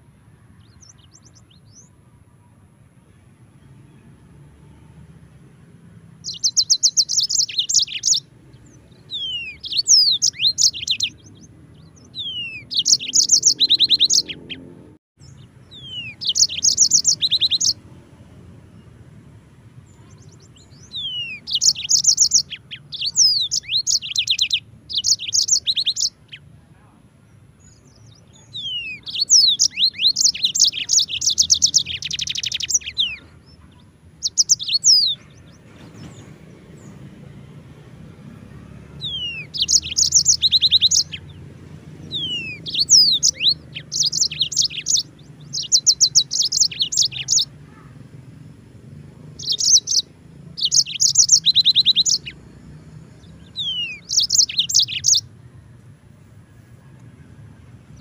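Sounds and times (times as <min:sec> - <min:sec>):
canary singing trills: 0:00.0 - 0:02.6, 0:03.6 - 0:19.0, 0:19.7 - 0:26.5, 0:27.3 - 0:55.6.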